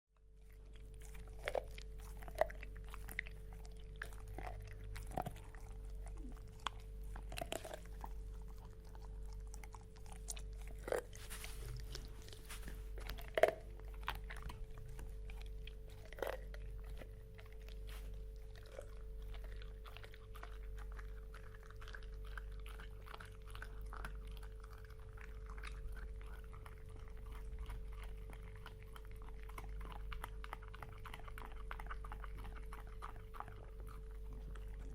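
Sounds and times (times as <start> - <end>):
dog chewing bones: 0.2 - 34.9
steady hum: 0.2 - 34.9
tongue and mouth sounds: 0.5 - 34.9.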